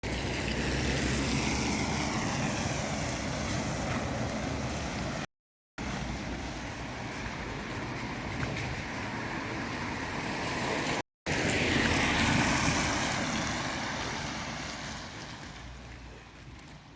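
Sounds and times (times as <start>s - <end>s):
tyres hissing on wet road: 0.0s - 8.0s, 9.0s - 16.4s
passing vehicle engines humming: 0.0s - 16.0s.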